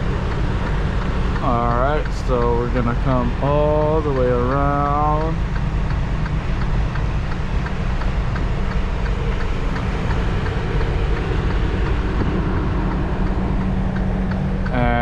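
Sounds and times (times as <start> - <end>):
diesel engine low rumble: 0.0 - 15.0
hazard flasher ticking: 0.1 - 15.0.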